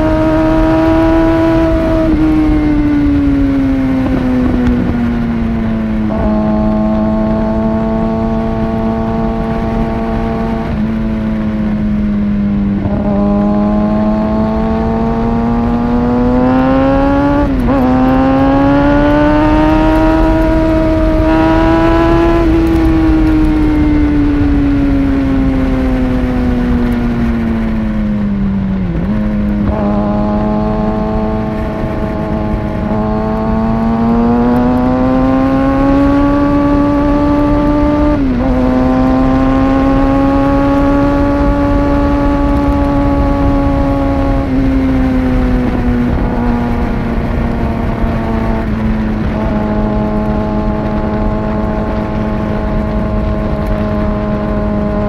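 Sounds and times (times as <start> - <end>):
motorcycle engine revving: 0.0 - 55.0
wind rushing: 0.0 - 55.0.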